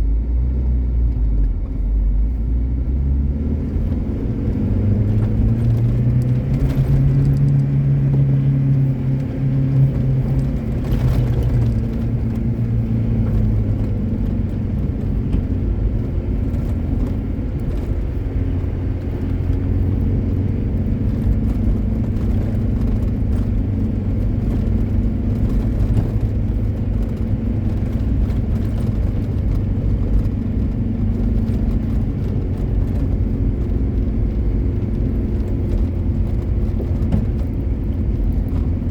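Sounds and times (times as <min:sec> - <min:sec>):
car engine running: 0:00.0 - 0:38.9
low rumble: 0:00.0 - 0:38.9.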